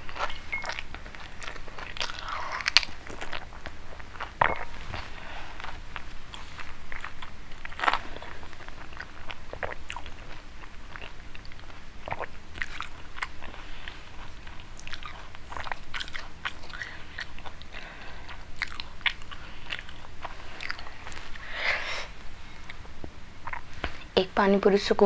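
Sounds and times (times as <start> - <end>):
person chewing crunchy food: 0.0 - 24.2.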